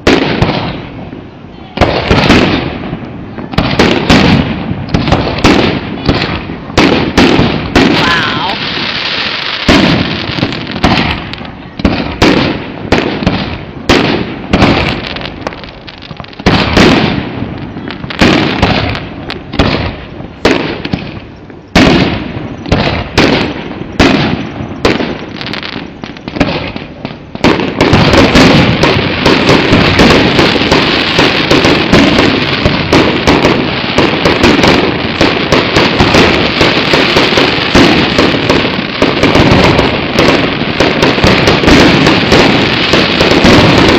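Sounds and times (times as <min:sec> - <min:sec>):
fireworks exploding: 0:00.0 - 0:43.9.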